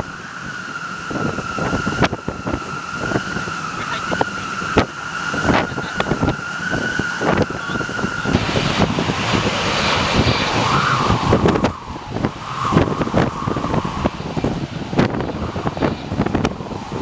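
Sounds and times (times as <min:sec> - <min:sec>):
jet engines whining: 0:00.0 - 0:17.0
wind buffeting microphone: 0:00.0 - 0:17.0.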